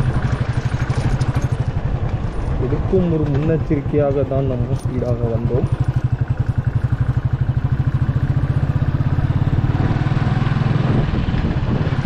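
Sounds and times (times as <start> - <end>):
motorcycle engine pulsing: 0.0 - 10.2.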